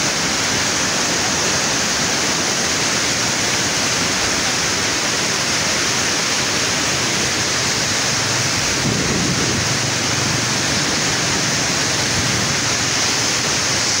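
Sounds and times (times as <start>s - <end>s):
deep water rumble: 0.0s - 14.0s
river rushing: 0.0s - 14.0s.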